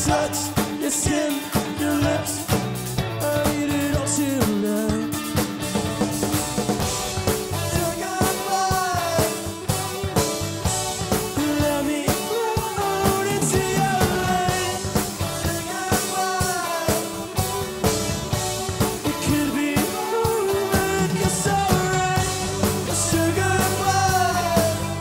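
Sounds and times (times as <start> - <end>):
electric guitar lead melody: 0.0 - 25.0
rock band playing live: 0.0 - 25.0.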